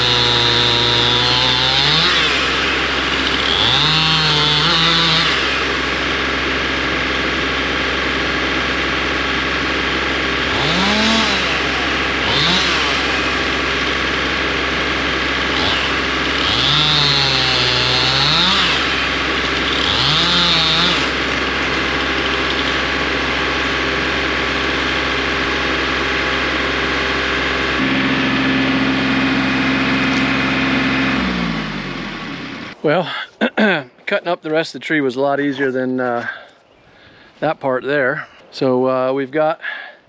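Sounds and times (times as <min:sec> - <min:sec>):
chainsaw revving: 0:00.0 - 0:32.8
steady engine hum: 0:00.0 - 0:33.7.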